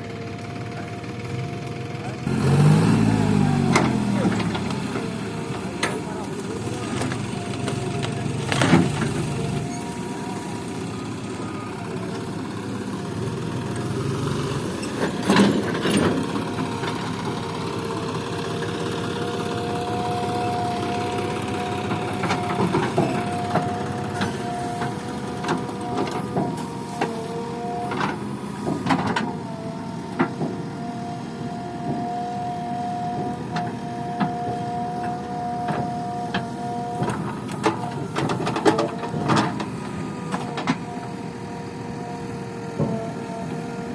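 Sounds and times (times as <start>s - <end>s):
backhoe engine whining: 0.0s - 43.9s.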